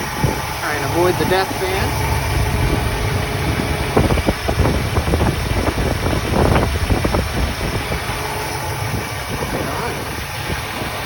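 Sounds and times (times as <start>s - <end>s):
engine idling: 0.0s - 11.0s
engine knocks and rattles: 0.0s - 11.0s.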